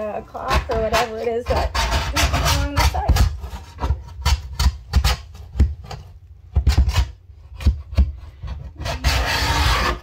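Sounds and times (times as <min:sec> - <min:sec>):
razor scraper scraping glass: 0:00.0 - 0:06.0, 0:06.7 - 0:10.0.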